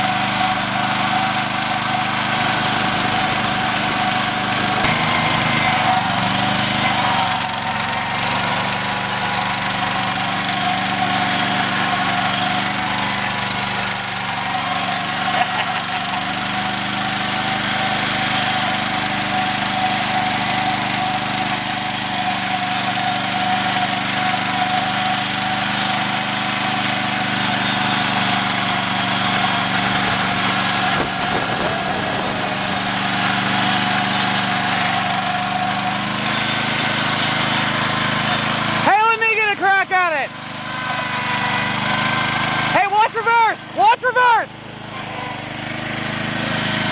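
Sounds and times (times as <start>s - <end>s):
tractor engine running steadily: 0.0s - 46.9s.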